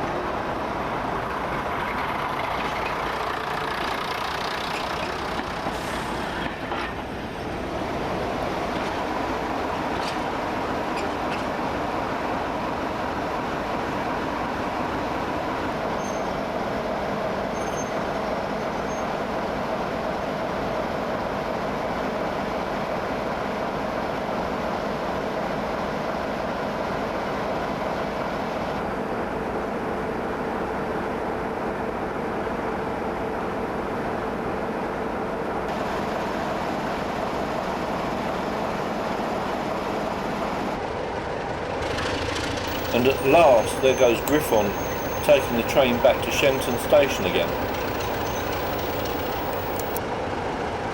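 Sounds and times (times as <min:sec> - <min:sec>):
diesel train engine running: 0:00.0 - 0:50.9.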